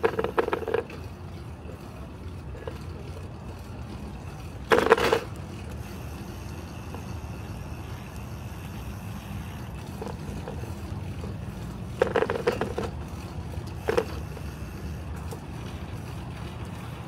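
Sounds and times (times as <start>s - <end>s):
bicycle rattling: 0.0s - 17.0s
bicycle tyres rumbling: 0.0s - 17.0s.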